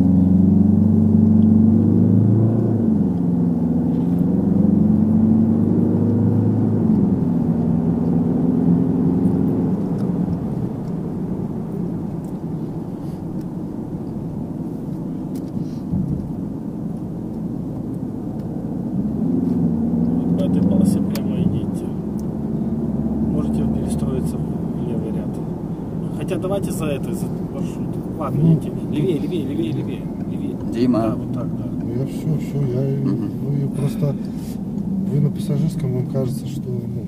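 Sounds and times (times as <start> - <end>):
car engine revving: 0.0 - 37.0
road and tyre rumble: 0.0 - 37.0.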